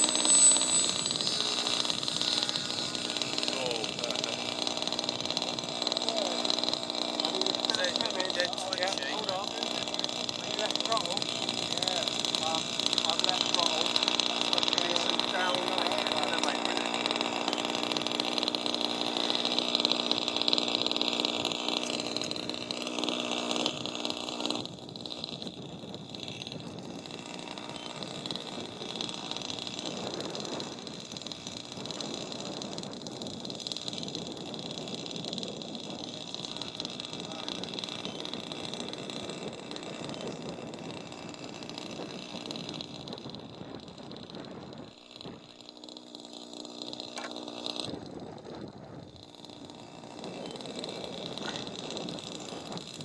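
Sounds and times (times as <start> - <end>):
model airplane motors whining: 0.0 - 53.0
rough hum: 0.0 - 53.0.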